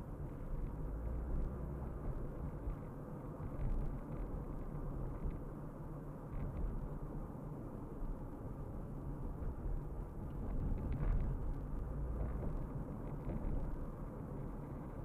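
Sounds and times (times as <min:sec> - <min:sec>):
car driving: 0:00.0 - 0:15.0.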